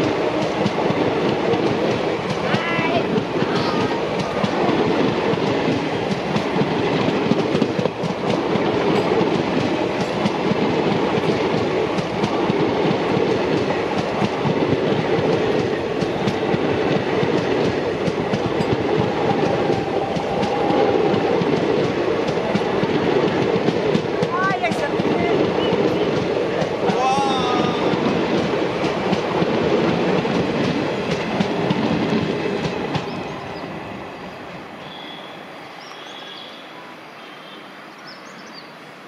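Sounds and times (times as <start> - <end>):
train wheels clattering over joints: 0.0 - 33.5.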